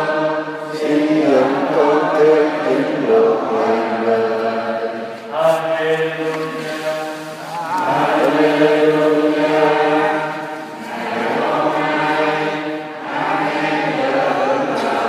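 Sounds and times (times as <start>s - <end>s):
choir singing a chant: 0.0s - 15.0s.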